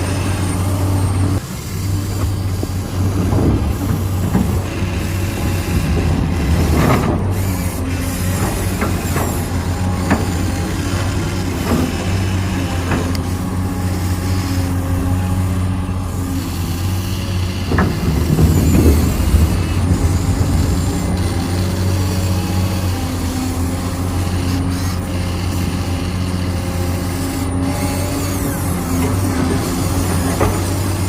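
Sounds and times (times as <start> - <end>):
electric motors whirring: 0.0 - 31.0.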